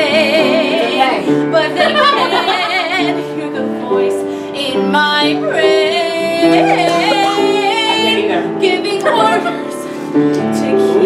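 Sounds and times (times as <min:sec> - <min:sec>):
instrumental accompaniment: 0:00.0 - 0:11.0
woman singing: 0:00.0 - 0:11.0.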